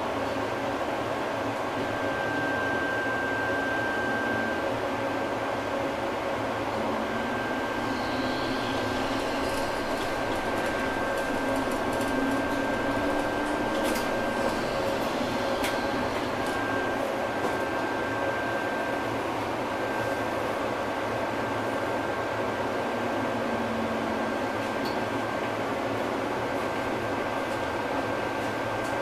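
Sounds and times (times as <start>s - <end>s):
tram mechanical hum: 0.0s - 29.0s
thin steady whine: 1.4s - 29.0s.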